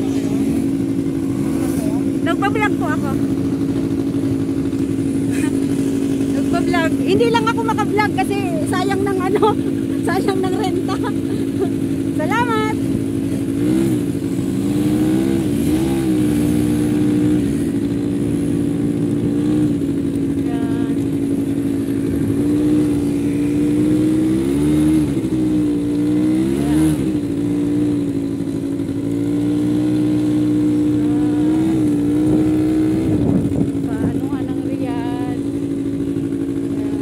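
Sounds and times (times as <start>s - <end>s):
quad bike engine revving: 0.0s - 37.0s.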